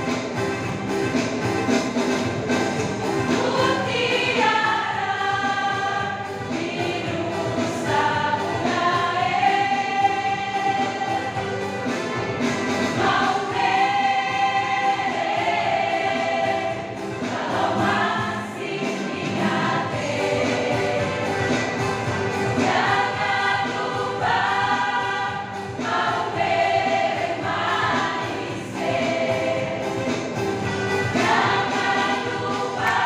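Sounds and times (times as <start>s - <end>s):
women's choir singing: 3.2s - 12.0s, 12.8s - 33.0s.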